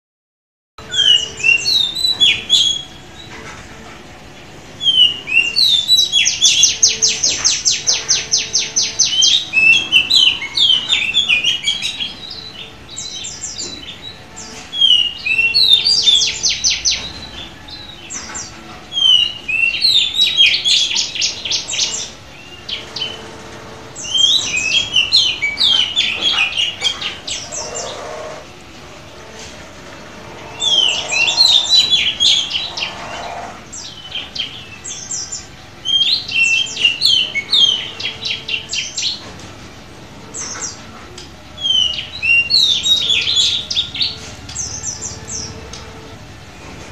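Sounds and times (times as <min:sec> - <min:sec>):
bird singing whistled notes: 0:00.8 - 0:03.0, 0:04.8 - 0:23.2, 0:24.0 - 0:28.4, 0:30.2 - 0:39.2, 0:41.5 - 0:46.0.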